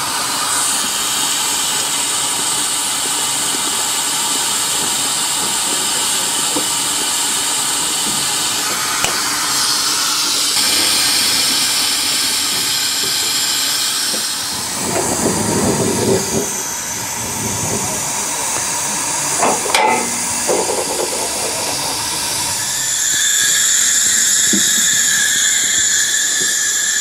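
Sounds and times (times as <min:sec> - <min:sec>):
steam hissing from locomotive: 0:00.0 - 0:27.0.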